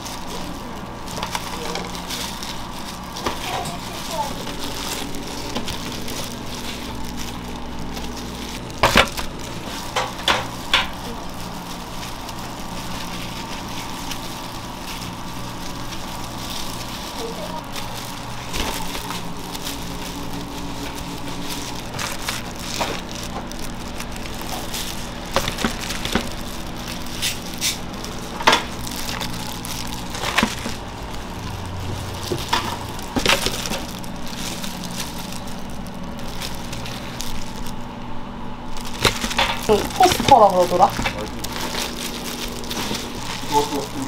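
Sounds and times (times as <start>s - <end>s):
machine hum: 0.0s - 44.0s.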